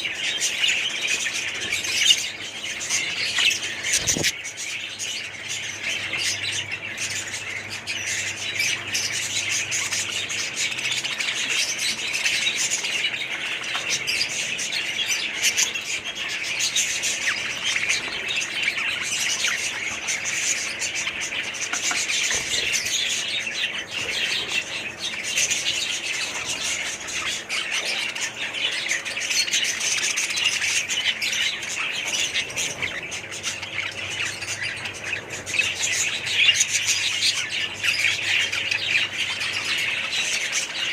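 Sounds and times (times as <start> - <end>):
small birds chirping and squawking: 0.0 - 40.9.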